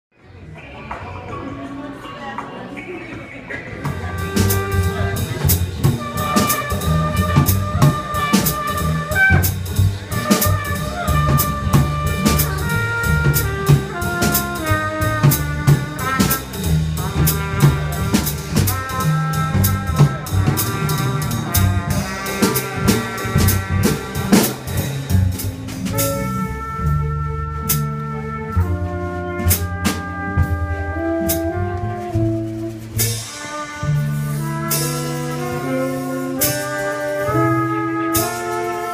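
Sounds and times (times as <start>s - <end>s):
drum kit and cymbals: 3.8s - 38.9s
plucked double bass: 3.8s - 38.9s
trumpet melody: 3.8s - 38.9s.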